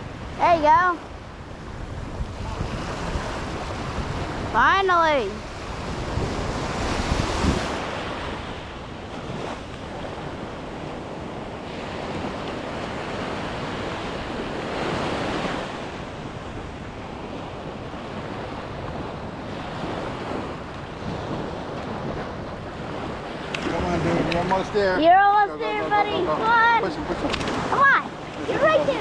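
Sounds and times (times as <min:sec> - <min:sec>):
surf washing up a sandy beach: 0:00.0 - 0:29.0
wind buffeting the microphone: 0:00.0 - 0:29.0.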